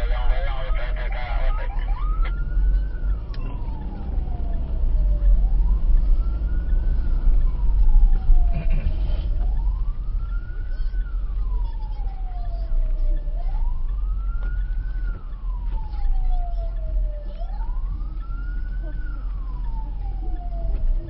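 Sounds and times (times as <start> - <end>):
road and engine rumble: 0.0 - 21.0
vehicle siren wailing: 0.0 - 21.0.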